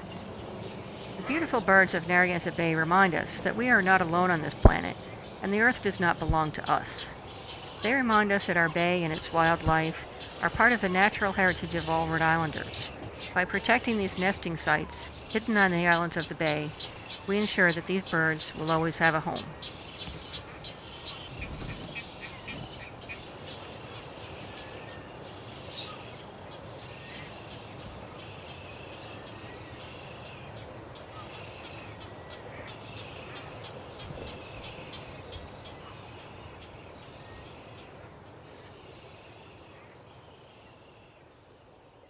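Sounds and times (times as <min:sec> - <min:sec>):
colony birds calling: 0:00.0 - 0:42.0
steady background hiss: 0:00.0 - 0:42.0.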